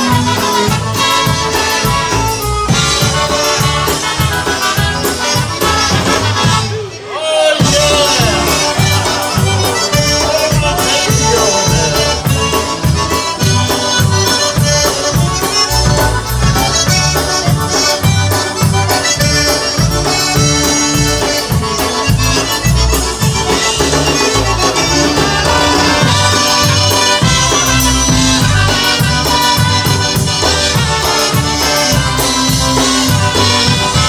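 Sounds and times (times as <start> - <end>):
drum kit beat: 0.0 - 6.9, 7.6 - 34.0
electric bass: 0.0 - 6.9, 7.6 - 34.0
concertina and accordion: 0.0 - 34.0.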